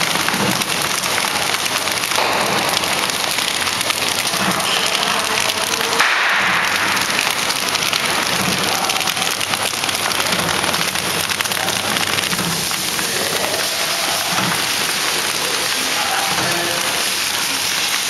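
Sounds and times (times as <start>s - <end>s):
wrapping machine running: 0.0s - 18.0s.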